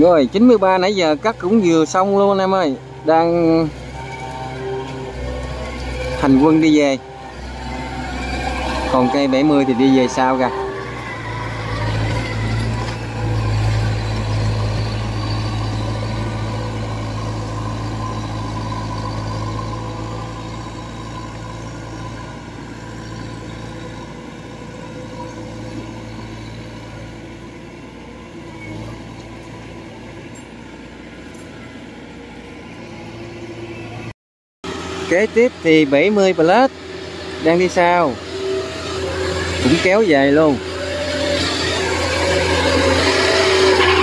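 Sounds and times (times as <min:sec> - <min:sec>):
combine harvester diesel engine running: 0:00.0 - 0:44.0.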